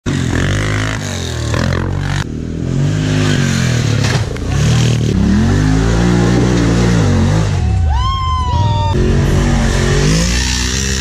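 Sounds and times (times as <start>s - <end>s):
off-road vehicle engine revving: 0.0s - 8.0s, 8.9s - 11.0s.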